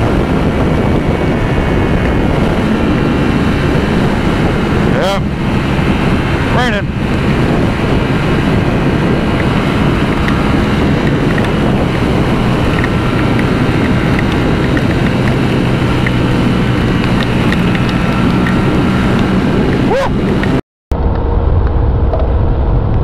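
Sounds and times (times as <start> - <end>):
water washing: 0.0 - 20.6
motorcycle engine: 0.0 - 22.9
wind noise on microphone: 0.0 - 23.0.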